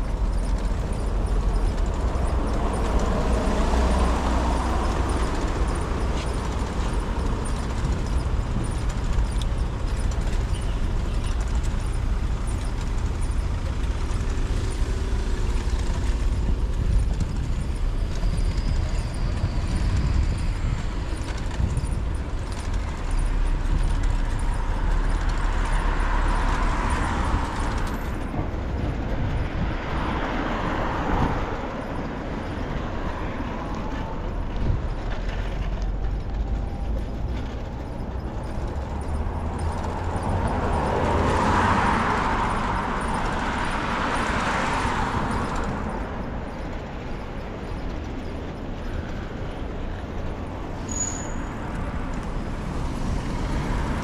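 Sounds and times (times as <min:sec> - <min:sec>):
vehicles passing: 0:00.0 - 0:54.0
wind and road rumble: 0:00.0 - 0:54.0.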